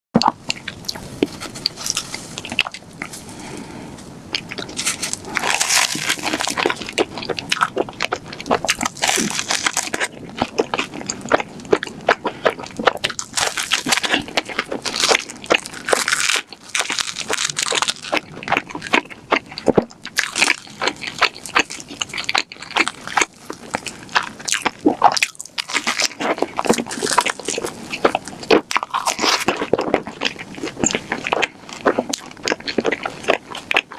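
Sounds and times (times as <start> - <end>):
person chewing food: 0.2 - 33.9.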